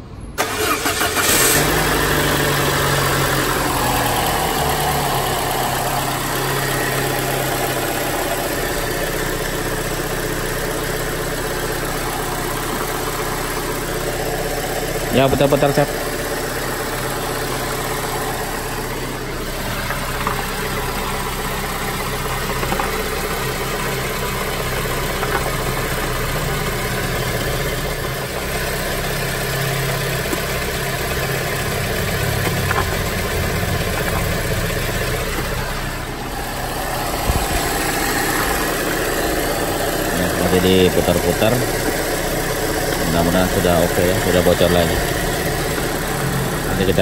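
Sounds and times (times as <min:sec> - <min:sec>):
car engine idling: 0:00.0 - 0:47.0
power steering pump: 0:00.4 - 0:47.0.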